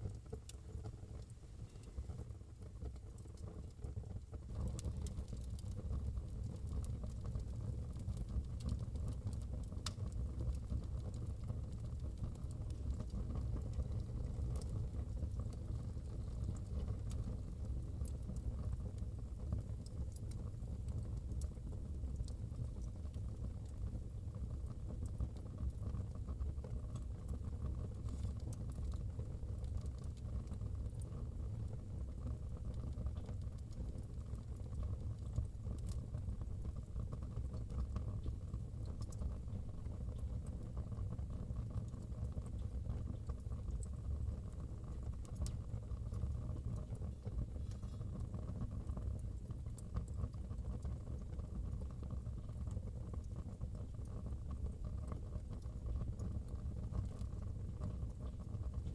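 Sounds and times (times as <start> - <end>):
wood fire burning in fireplace: 0.0 - 58.9.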